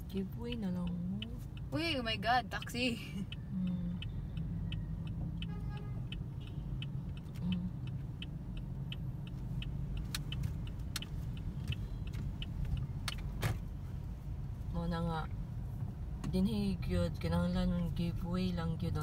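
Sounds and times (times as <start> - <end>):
engine and road rumble: 0.0 - 19.0
turn signal ticking: 0.0 - 19.0.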